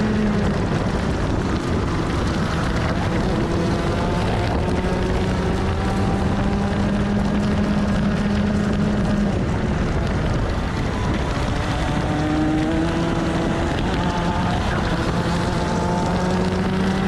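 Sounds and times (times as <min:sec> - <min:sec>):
kart engine at high revs: 0:00.0 - 0:17.0.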